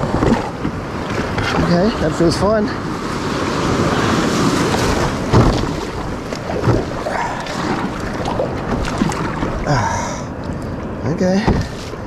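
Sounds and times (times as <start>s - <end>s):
small waves breaking: 0.0s - 12.0s
water splashing against kayak: 0.0s - 12.0s.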